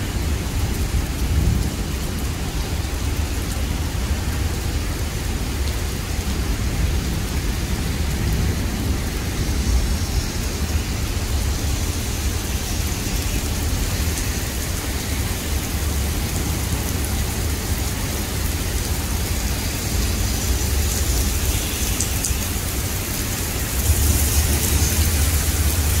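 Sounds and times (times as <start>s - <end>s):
heavy rain on road: 0.0s - 26.0s.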